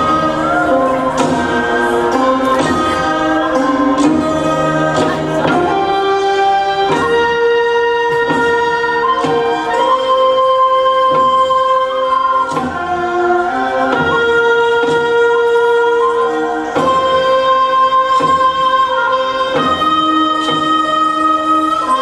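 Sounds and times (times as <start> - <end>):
slow melody of long notes: 0.0 - 22.0.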